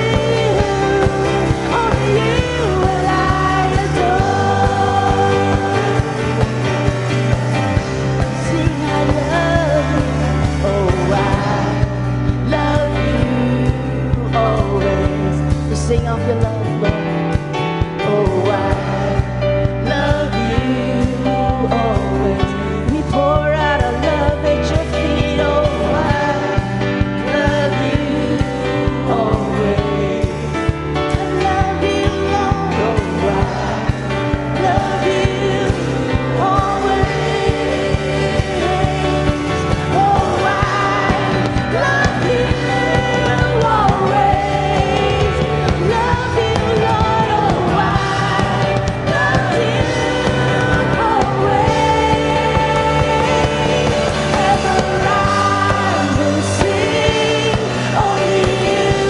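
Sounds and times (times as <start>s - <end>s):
worship band with singers: 0.0s - 59.0s.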